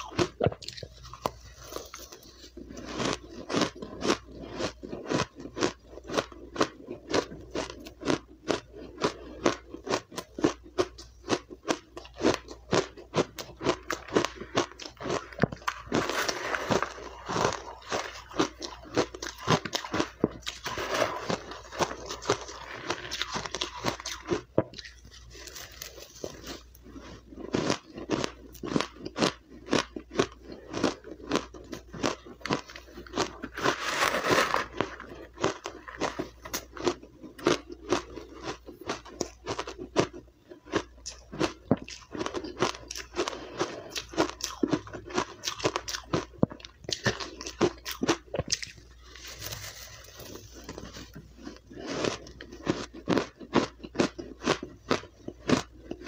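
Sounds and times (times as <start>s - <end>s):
person chewing crushed ice: 0.0s - 56.0s.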